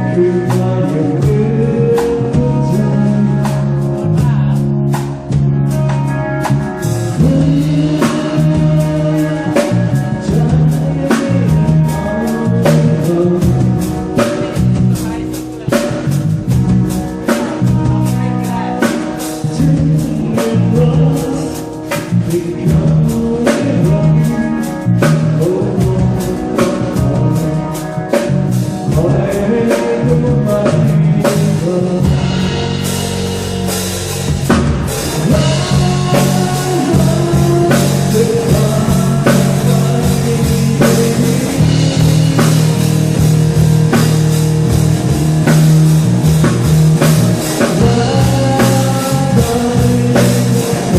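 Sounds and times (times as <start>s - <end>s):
drums and cymbals: 0.0s - 50.9s
rock music with singing: 0.0s - 50.9s.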